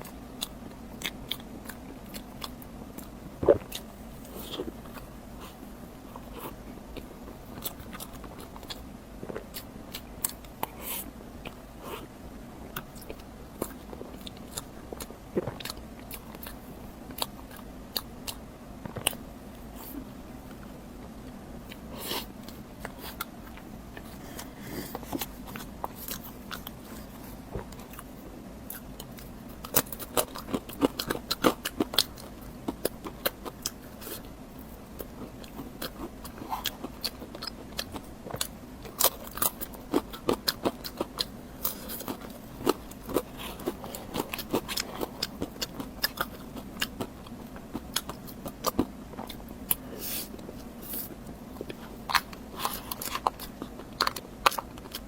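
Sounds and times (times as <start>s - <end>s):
person biting and chewing food: 0.0s - 12.1s, 12.7s - 20.7s, 21.7s - 55.0s.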